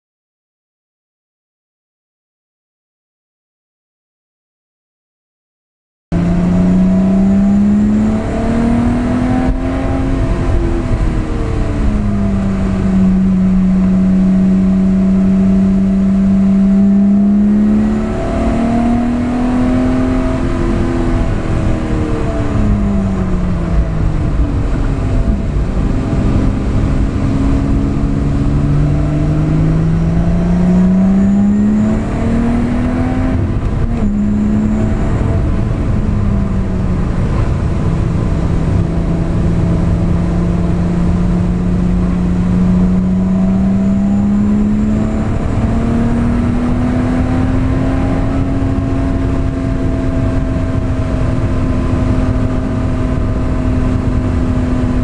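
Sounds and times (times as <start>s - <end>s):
car engine revving: 6.1s - 55.0s.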